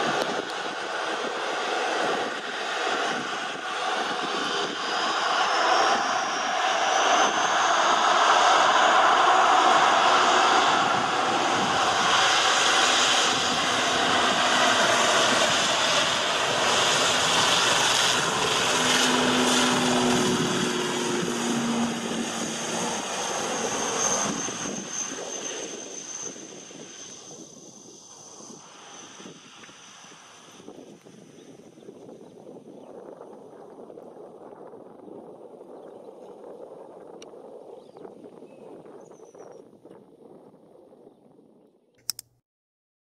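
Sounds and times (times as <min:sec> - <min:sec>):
propeller airliner taking off: 0:00.0 - 0:41.6.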